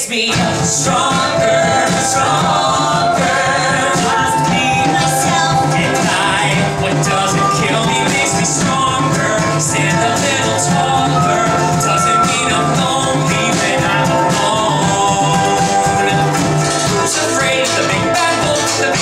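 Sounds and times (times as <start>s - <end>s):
drums: 0.0s - 19.0s
voices singing along: 0.0s - 19.0s
ukulele strumming: 0.3s - 19.0s
bowed cello: 0.4s - 19.0s
flute playing: 0.8s - 19.0s.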